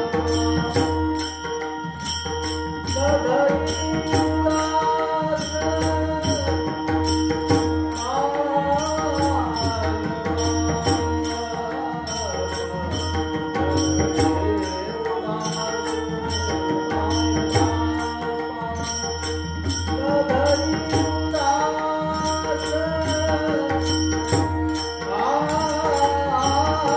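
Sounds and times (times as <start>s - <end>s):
jingling percussion: 0.0s - 26.9s
person singing: 2.9s - 7.0s, 7.9s - 26.9s.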